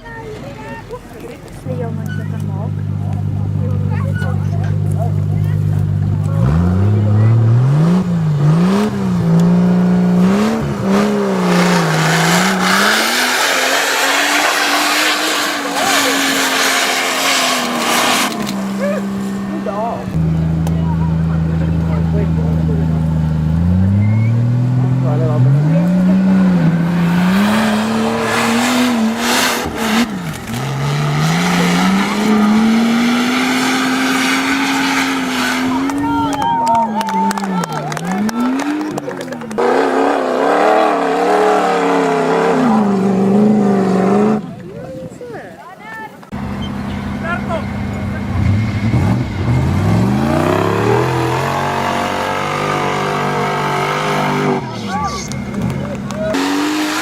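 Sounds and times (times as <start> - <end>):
engine revving: 1.7 - 44.6, 46.3 - 57.0.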